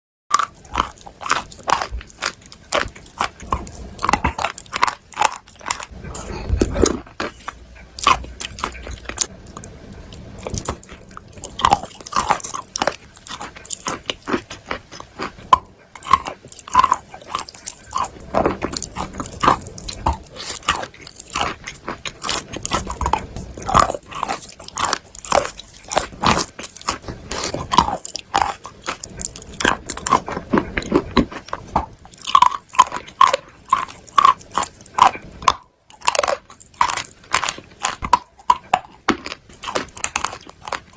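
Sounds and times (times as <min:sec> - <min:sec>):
person chewing chalk crunching: 0:00.3 - 0:40.9.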